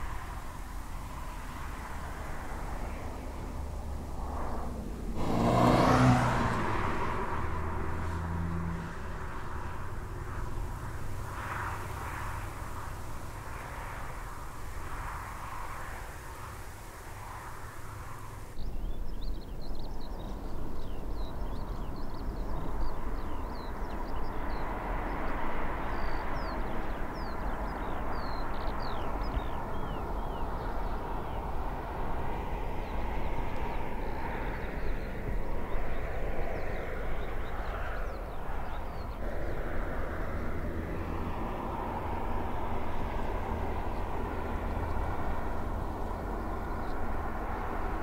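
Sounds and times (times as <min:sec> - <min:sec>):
car road noise passing: 0:00.0 - 0:18.6, 0:20.3 - 0:48.0.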